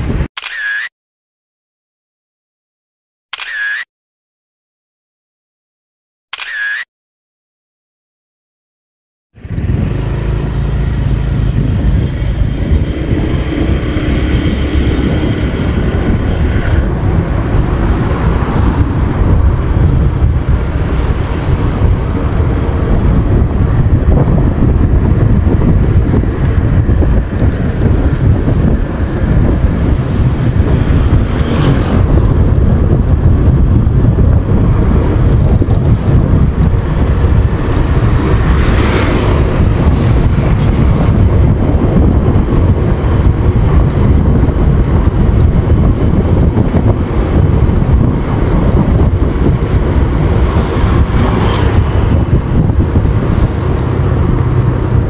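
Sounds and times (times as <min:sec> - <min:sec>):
motorbike engine and road noise: 0:09.4 - 0:55.0
motorbikes passing: 0:09.4 - 0:55.0
wind buffeting microphone: 0:09.4 - 0:55.0.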